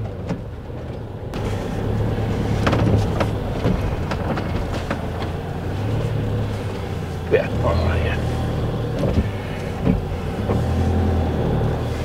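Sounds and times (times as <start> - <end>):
engine running low: 0.0 - 12.0
wet road noise: 0.0 - 12.0.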